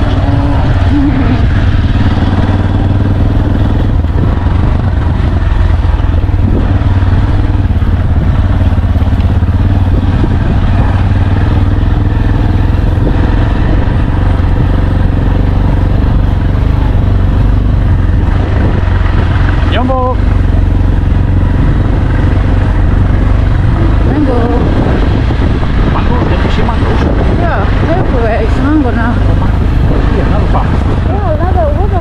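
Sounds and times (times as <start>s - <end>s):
road noise: 0.0s - 32.0s
vehicle engine running: 0.0s - 32.0s.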